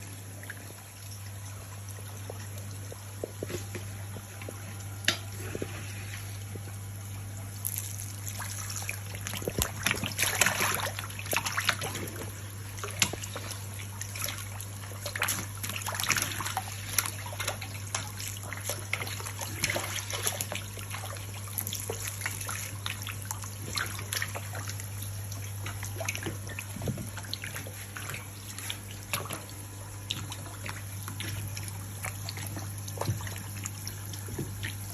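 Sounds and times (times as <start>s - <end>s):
steady low hum: 0.0s - 34.9s
water trickling and splashing: 0.0s - 34.9s.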